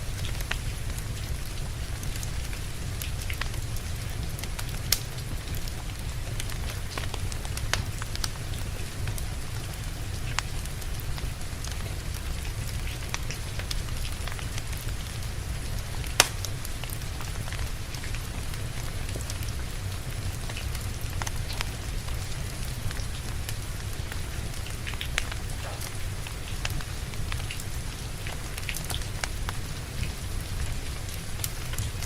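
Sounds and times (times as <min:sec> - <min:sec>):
fireplace crackling: 0:00.0 - 0:32.0
steady rain: 0:00.0 - 0:32.0.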